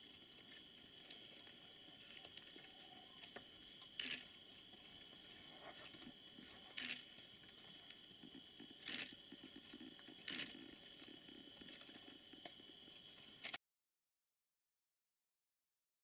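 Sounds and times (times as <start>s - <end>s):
insect chorus trilling: 0.0s - 13.6s.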